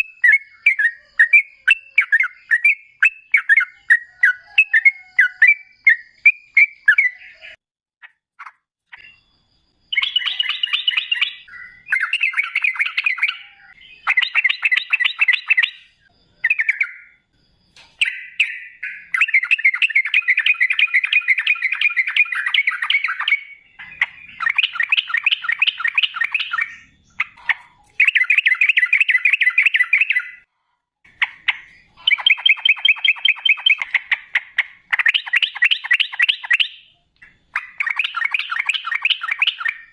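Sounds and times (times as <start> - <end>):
bulbul chattering song: 0.0 - 30.5, 31.1 - 39.9.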